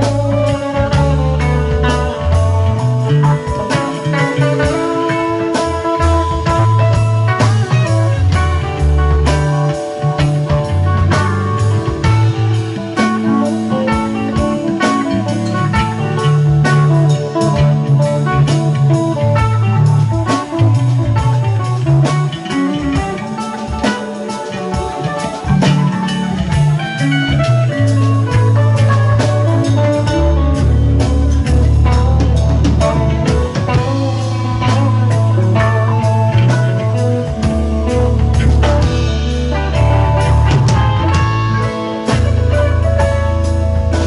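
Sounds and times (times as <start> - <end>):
bass guitar: 0.0 - 44.0
drum kit: 0.0 - 44.0
electric guitars: 0.0 - 44.0.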